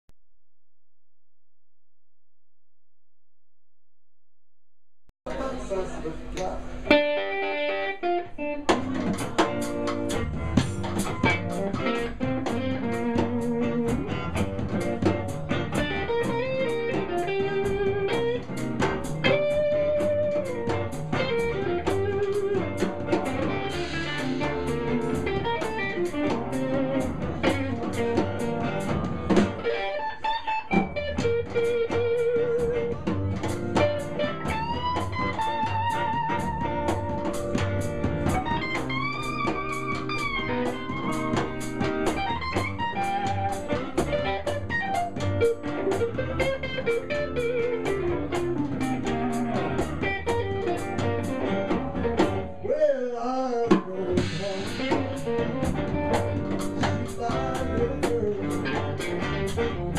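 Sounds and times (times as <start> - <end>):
electric guitar lead: 6.2 - 53.0, 53.7 - 59.9
blues band playing: 6.8 - 59.9.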